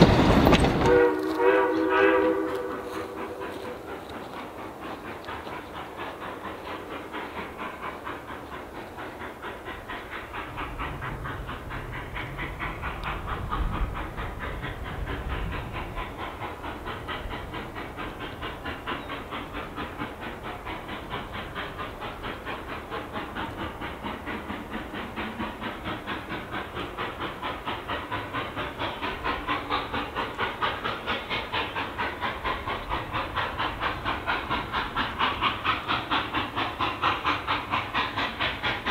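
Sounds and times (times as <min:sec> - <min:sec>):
steam hiss: 0:00.0 - 0:38.9
steam locomotive chuffing: 0:00.0 - 0:38.9.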